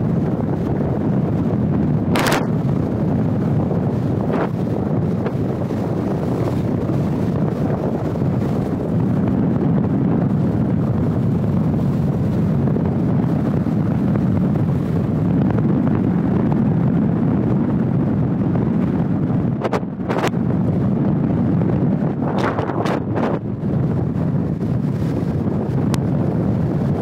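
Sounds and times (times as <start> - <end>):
car road noise: 0.0 - 27.0
wind rushing over microphone: 0.0 - 27.0.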